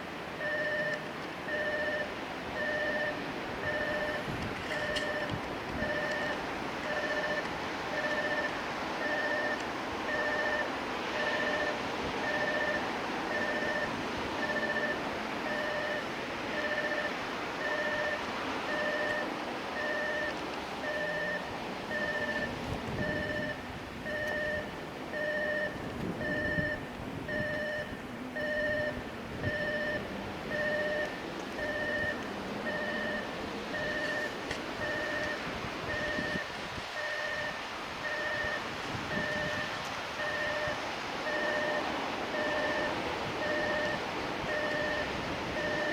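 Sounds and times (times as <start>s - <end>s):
electronic warning beeps: 0.4s - 45.9s.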